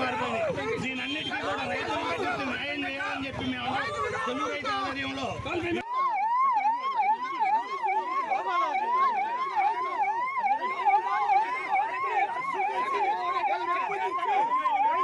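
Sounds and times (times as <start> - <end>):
police siren yelp: 0.0 - 15.0.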